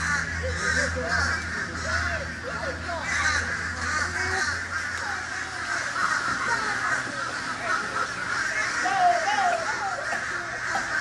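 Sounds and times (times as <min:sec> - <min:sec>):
many birds calling: 0:00.0 - 0:11.0.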